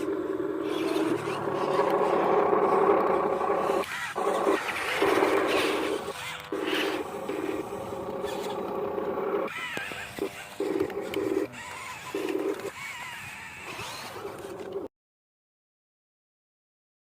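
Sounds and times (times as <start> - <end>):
small electric motors buzzing: 0.0 - 14.9.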